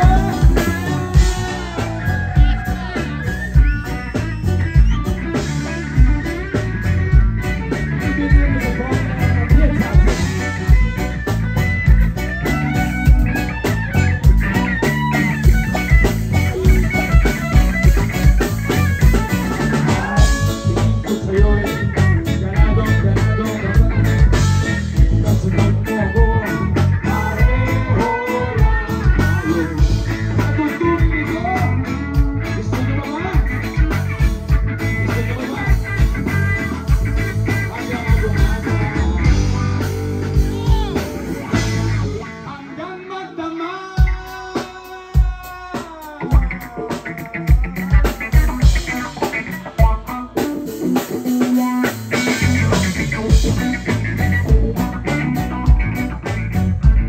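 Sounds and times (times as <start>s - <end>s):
live rock-reggae band playing: 0.0s - 57.0s.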